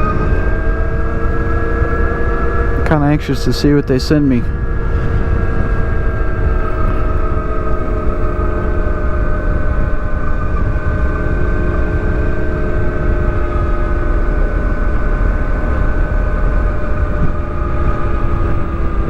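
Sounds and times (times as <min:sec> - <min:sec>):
electric motor whine: 0:00.0 - 0:19.0
wind rushing over microphone: 0:00.0 - 0:19.0.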